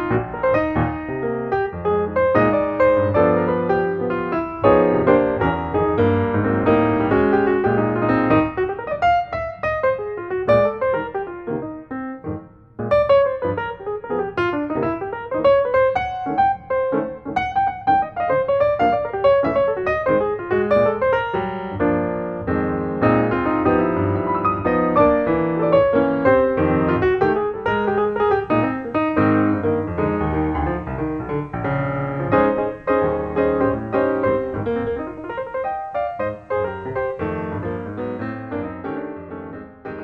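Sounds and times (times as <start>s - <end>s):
piano background music: 0.0s - 40.0s.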